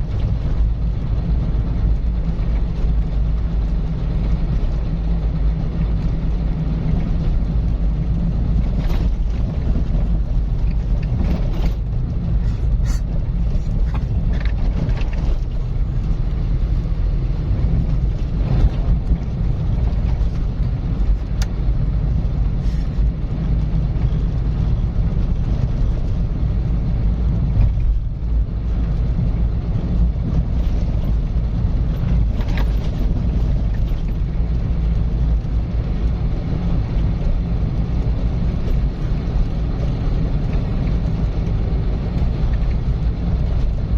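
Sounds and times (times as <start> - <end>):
car driving rumble: 0.0 - 43.9.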